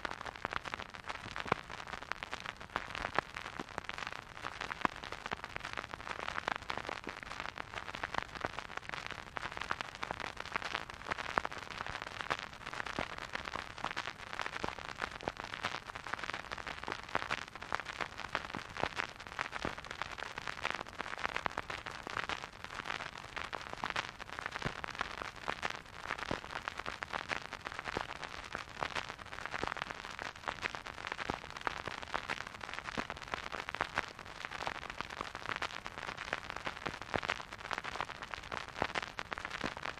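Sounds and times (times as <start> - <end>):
vinyl record crackling and popping: 0.0 - 39.9.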